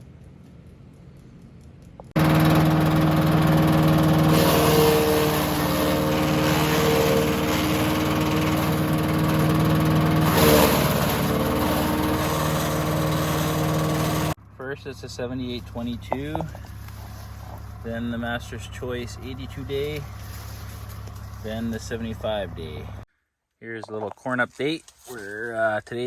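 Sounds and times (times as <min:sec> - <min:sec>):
engine humming: 0:02.0 - 0:23.1.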